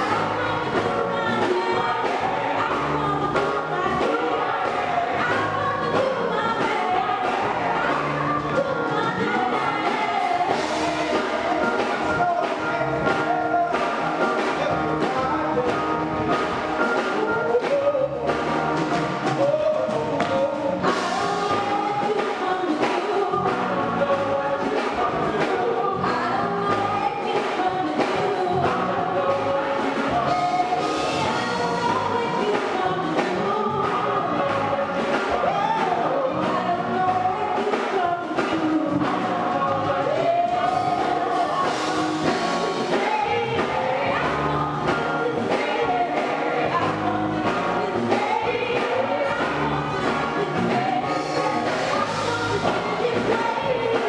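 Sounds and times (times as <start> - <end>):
band playing with steady beat: 0.0 - 54.0
voices singing together: 0.0 - 54.0.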